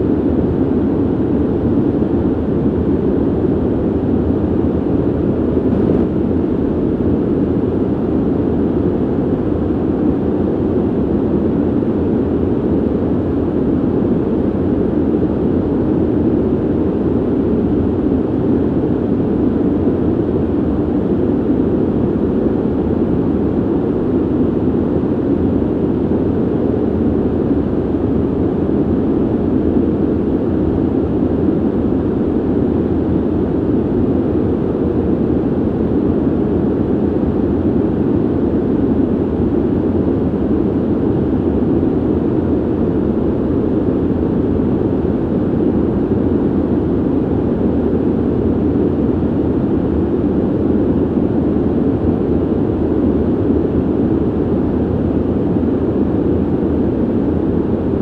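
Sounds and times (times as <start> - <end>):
ventilation air rushing: 0.0 - 58.0.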